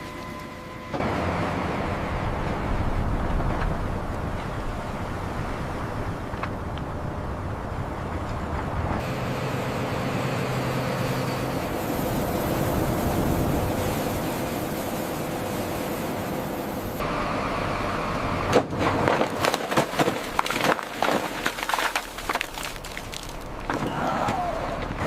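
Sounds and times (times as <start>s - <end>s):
heavy machinery rumbling: 0.0s - 25.0s.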